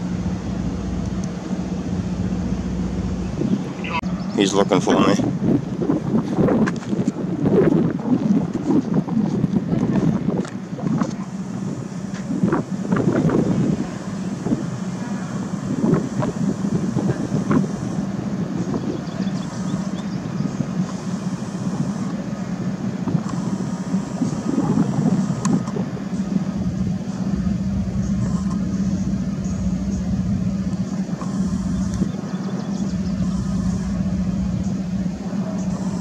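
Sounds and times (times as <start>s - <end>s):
vehicles humming: 0.0s - 36.0s.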